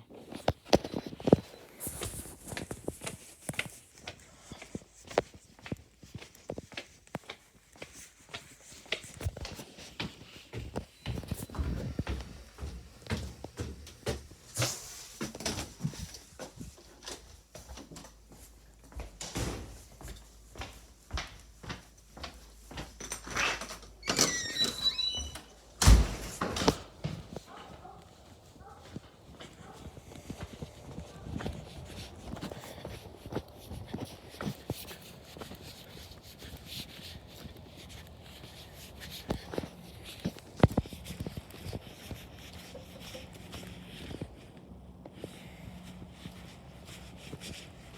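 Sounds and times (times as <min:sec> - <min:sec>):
footsteps walking: 0:00.1 - 0:47.9.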